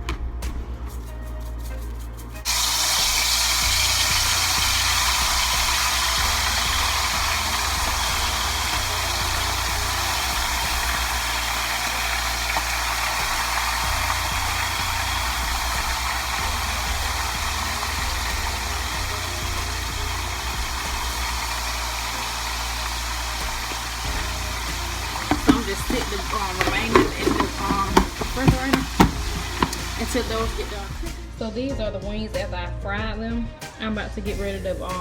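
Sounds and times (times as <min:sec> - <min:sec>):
chicken frying in oil: 0:02.4 - 0:31.2.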